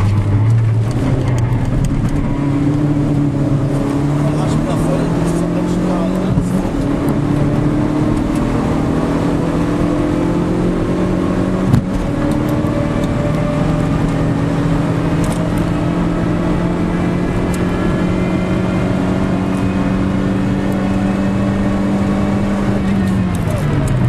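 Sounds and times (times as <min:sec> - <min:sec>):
rally car engine pulling hard: 0:00.0 - 0:24.0.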